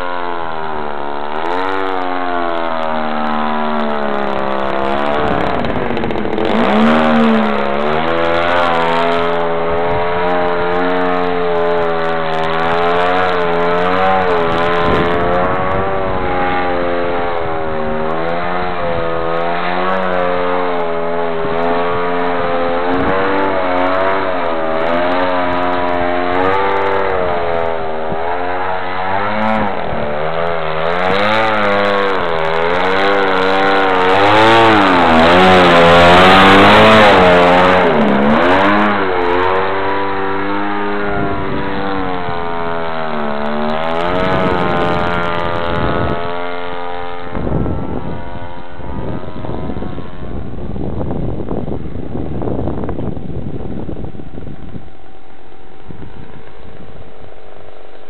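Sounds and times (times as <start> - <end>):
model plane motor and propeller: 0.0 - 58.0.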